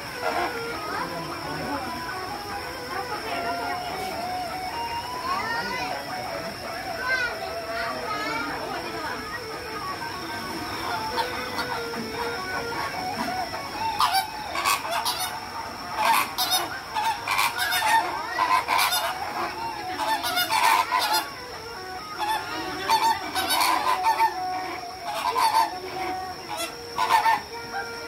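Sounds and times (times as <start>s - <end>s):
flamingos honking: 0.0s - 28.0s.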